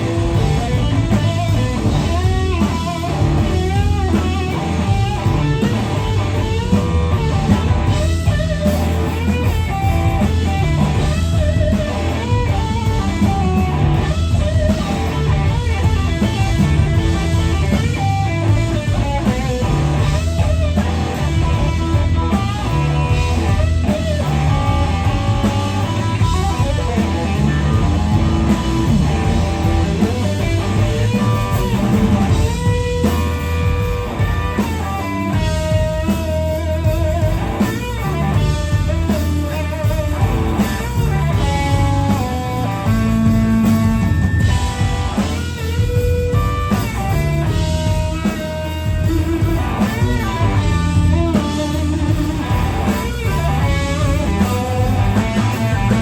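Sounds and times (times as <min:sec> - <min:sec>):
blues-rock band playing: 0:00.0 - 0:56.0
electric guitar bending notes: 0:00.0 - 0:56.0.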